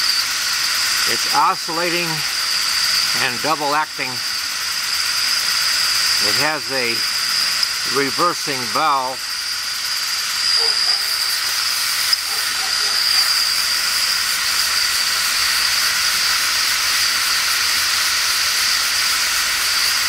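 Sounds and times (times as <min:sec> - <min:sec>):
steam engine running fast: 0:00.0 - 0:20.0
steam hissing: 0:00.0 - 0:20.0.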